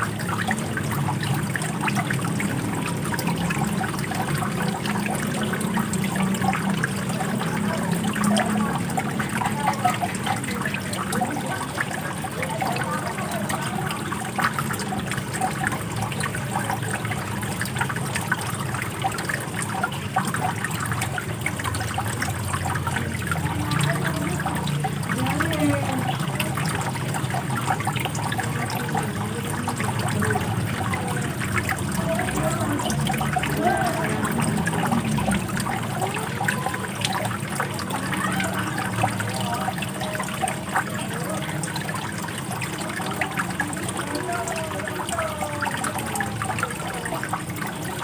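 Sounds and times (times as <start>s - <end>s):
running water flowing: 0.0s - 48.0s.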